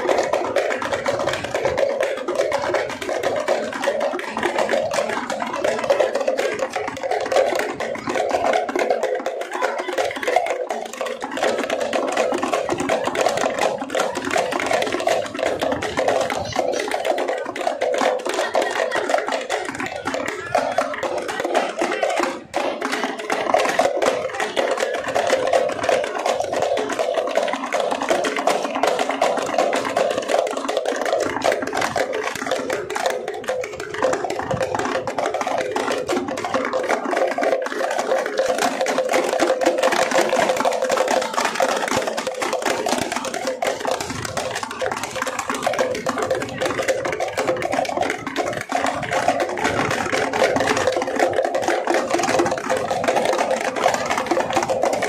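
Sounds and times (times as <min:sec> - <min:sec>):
frame drums beaten with sticks: 0:00.0 - 0:55.0.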